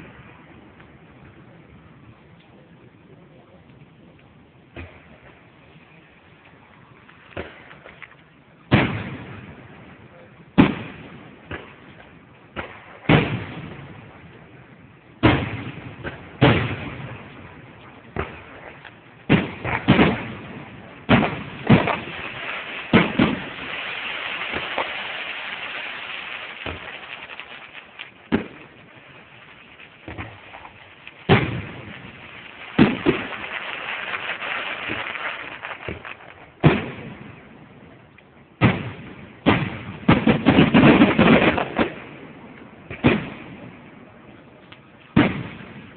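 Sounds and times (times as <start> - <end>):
fireworks booming: 0.0 - 45.9
fireworks crackling hiss: 0.0 - 45.9.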